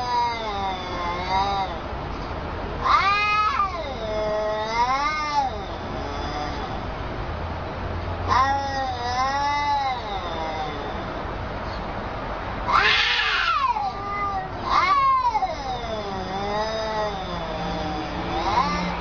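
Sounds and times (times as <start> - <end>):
cats yowling: 0.0 - 1.9, 2.8 - 6.9, 8.2 - 11.4, 12.6 - 19.0.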